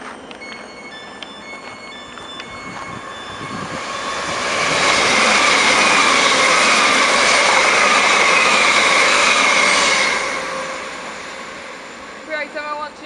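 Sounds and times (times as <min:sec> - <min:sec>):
steady high whine: 0:00.0 - 0:13.0
train wheels rushing on rail: 0:00.0 - 0:13.0.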